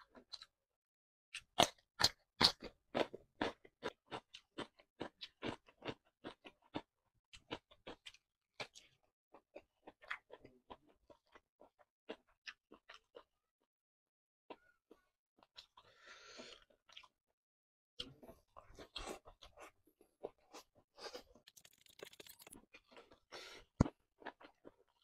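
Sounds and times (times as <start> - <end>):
crunchy chewing of cucumber: 1.3 - 13.3, 14.5 - 17.2, 18.0 - 25.0.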